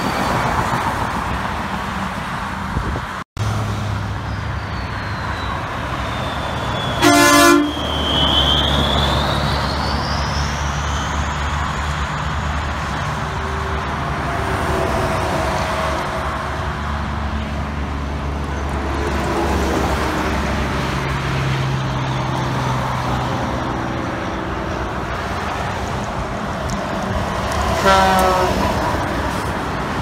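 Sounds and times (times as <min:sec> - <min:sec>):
diesel trucks passing: 0:00.0 - 0:30.0
tyre and traffic noise: 0:00.0 - 0:30.0.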